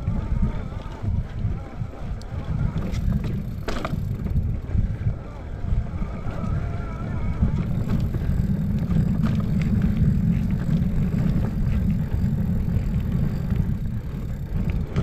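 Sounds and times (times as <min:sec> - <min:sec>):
bike clicks and rattles: 0:00.0 - 0:15.0
bike tyres rumbling on dirt: 0:00.0 - 0:15.0
wind on microphone: 0:00.0 - 0:15.0.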